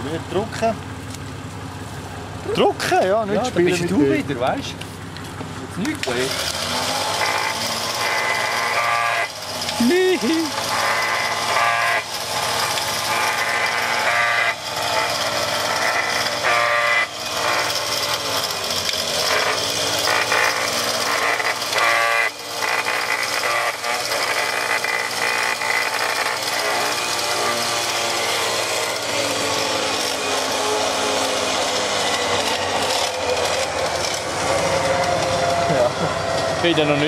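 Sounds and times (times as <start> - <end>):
winch whirring: 5.7 - 37.0.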